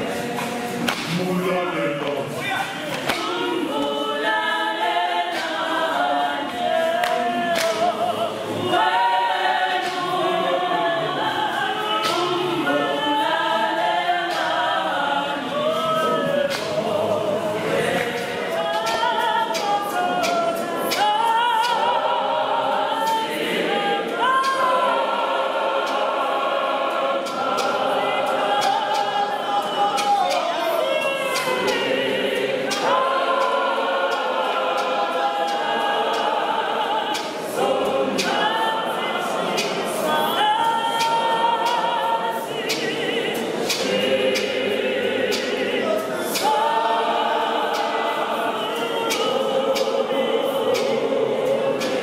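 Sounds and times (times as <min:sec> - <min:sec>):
mixed choir singing a cappella: 0:00.0 - 0:52.0.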